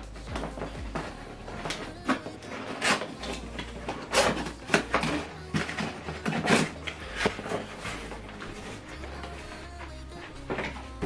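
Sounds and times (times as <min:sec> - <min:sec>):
cardboard scraping and rustling: 0:00.1 - 0:09.5.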